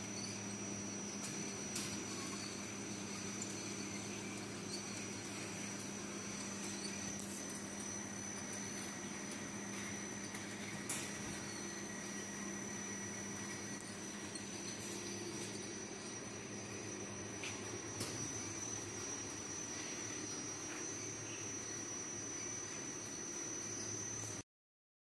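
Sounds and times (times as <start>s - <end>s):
machine motor hum with whine: 0.0s - 24.4s.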